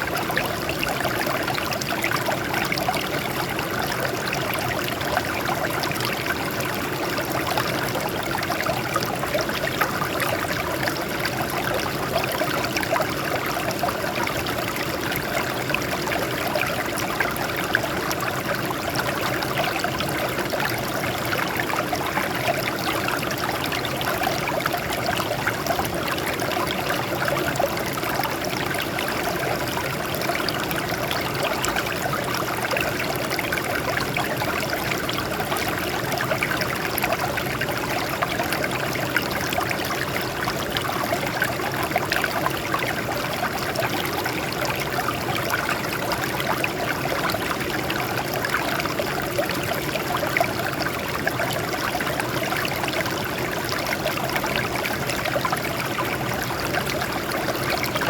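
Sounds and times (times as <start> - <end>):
water flowing over rocks: 0.0 - 58.0.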